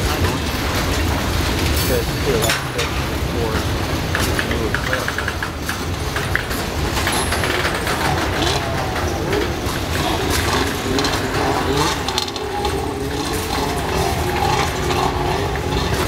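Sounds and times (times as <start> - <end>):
freight car wheels rumbling: 0.0 - 16.0
metallic clanks and clicks: 0.0 - 16.0.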